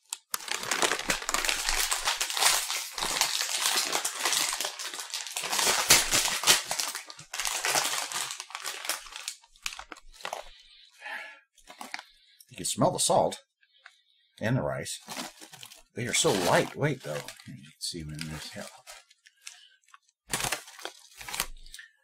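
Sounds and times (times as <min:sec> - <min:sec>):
plastic snack bag crinkling: 0:00.0 - 0:10.7, 0:11.6 - 0:12.2, 0:15.0 - 0:21.9.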